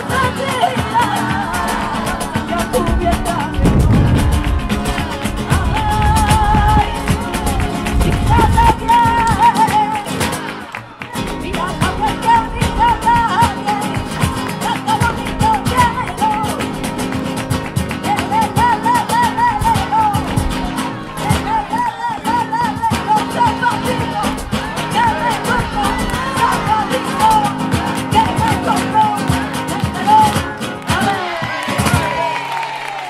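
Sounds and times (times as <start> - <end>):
cajon and drums: 0.0 - 10.5, 11.1 - 32.3
woman singing ornamented runs: 0.0 - 31.5
acoustic guitar: 0.0 - 33.0
hand clapping: 0.0 - 33.0.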